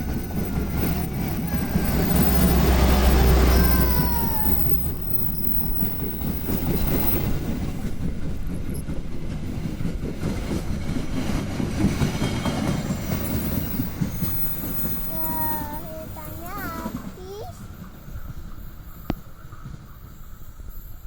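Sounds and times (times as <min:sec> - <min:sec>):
wheels clacking over rail joints: 0:00.0 - 0:20.4
train rumble: 0:00.0 - 0:21.0.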